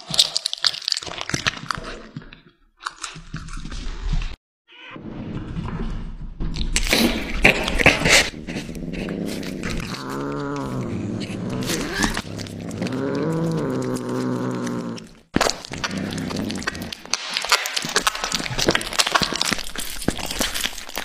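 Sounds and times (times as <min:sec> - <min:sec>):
cats chewing and crunching: 0:00.0 - 0:04.2, 0:06.8 - 0:21.0.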